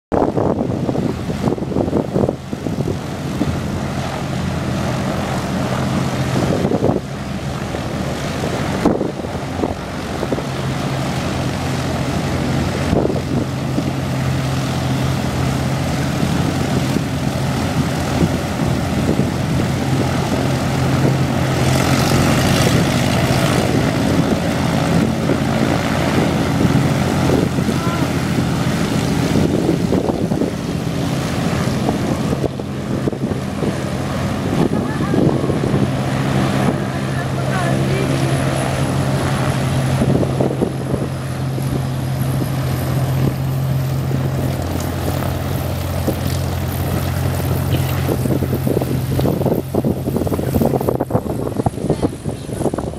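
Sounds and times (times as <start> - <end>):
propeller airplane engine droning: 0.1 - 52.9.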